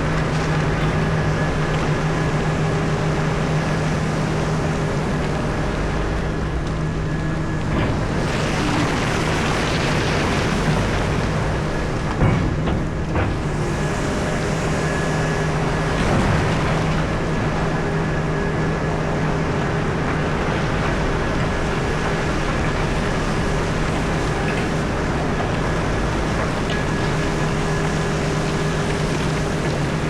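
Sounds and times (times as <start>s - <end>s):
excavator engine drone: 0.0s - 30.0s.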